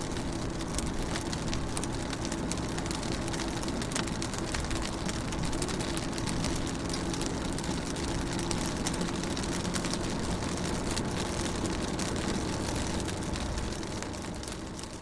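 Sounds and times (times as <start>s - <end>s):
rain pattering on car: 0.0s - 15.0s
steady low rumble: 0.0s - 15.0s.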